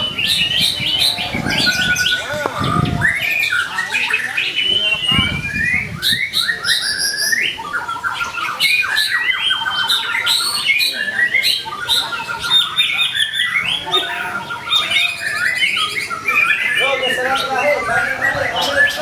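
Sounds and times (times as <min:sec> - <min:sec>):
bird singing whistles and trills: 0:00.0 - 0:19.0.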